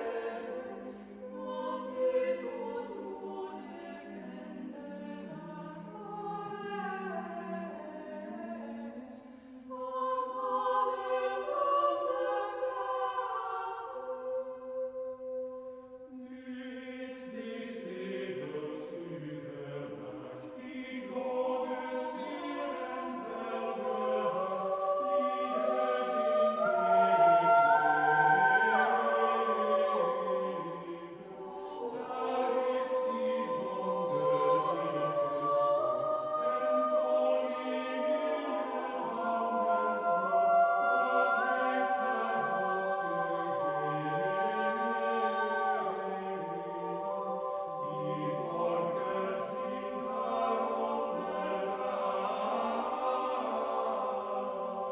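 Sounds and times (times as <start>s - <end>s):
vocal ensemble singing: 0.0s - 54.9s.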